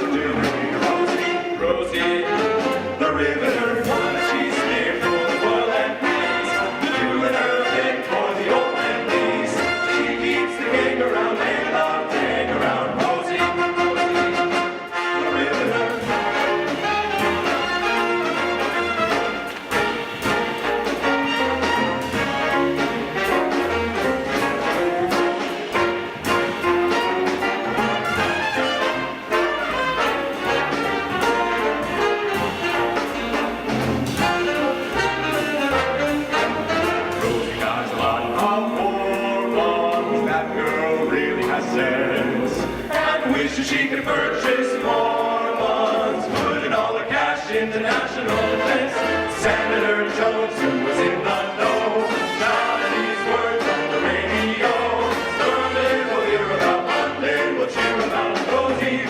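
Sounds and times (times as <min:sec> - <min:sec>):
big-band swing music: 0:00.0 - 0:59.0.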